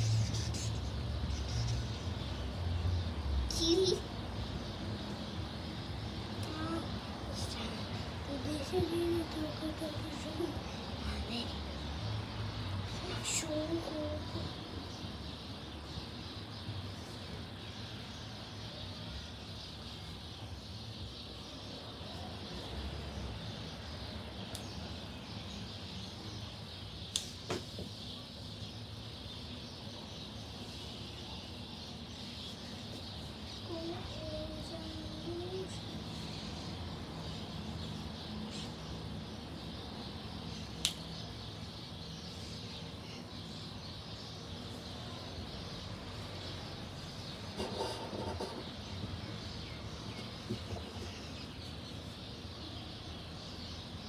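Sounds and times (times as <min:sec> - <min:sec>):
outdoor background hiss and hum: 0:00.0 - 0:54.0.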